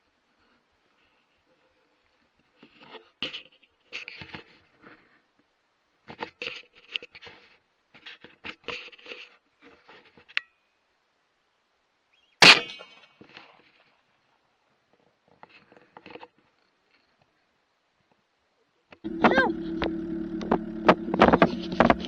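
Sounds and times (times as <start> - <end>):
faint irregular noises: 0.0 - 10.4, 13.2 - 22.0.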